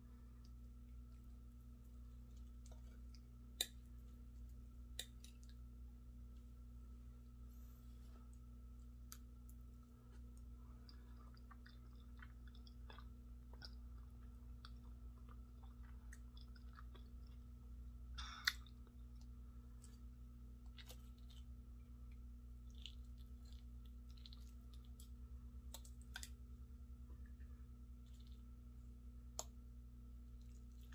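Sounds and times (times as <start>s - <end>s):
low steady hum: 0.0s - 30.9s
chewing and mouth clicks: 0.4s - 5.7s, 8.8s - 17.7s, 18.4s - 29.6s, 30.3s - 30.9s.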